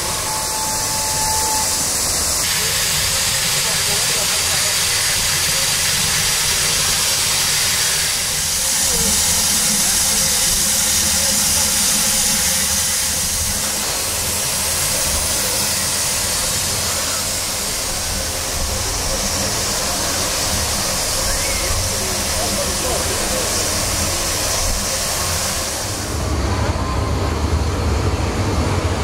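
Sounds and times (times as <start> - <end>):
steam hissing: 0.0 - 29.0.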